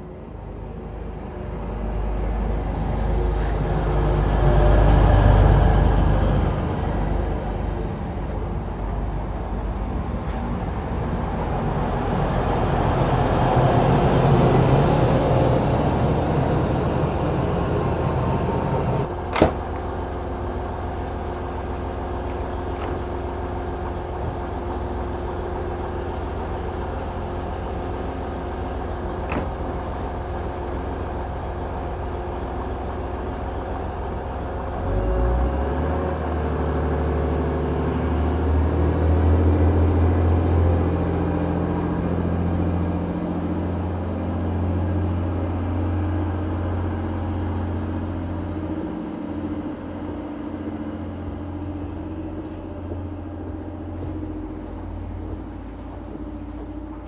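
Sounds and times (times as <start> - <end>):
passenger train braking: 0.0 - 57.0
train equipment hum: 0.0 - 57.0
train rumble moving off: 0.0 - 57.0.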